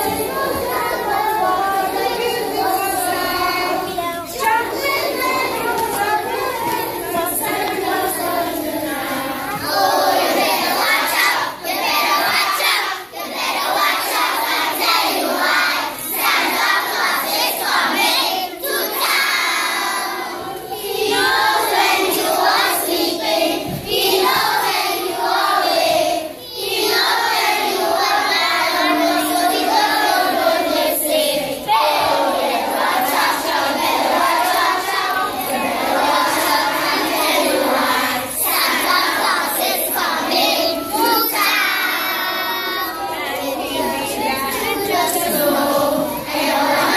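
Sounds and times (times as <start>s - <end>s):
children's choir singing a carol: 0.0s - 46.9s.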